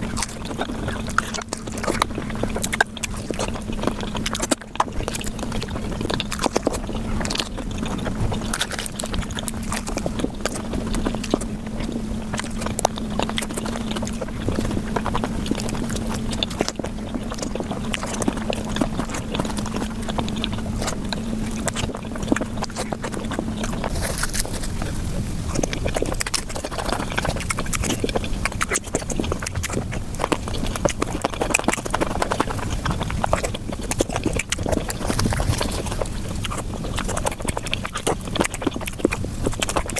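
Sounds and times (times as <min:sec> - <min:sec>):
low hum: 0:00.0 - 0:39.9
sped-up chewing clicks and smacks: 0:00.0 - 0:39.9.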